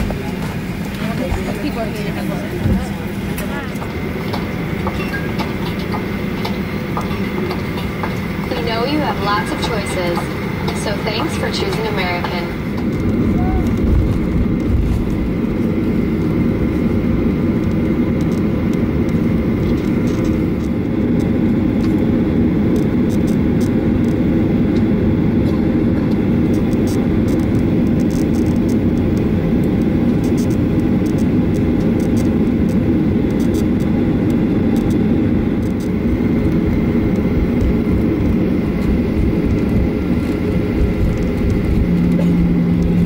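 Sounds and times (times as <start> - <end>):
faint steady whine: 0.0 - 43.0
jet engines idling rumble: 0.0 - 43.0.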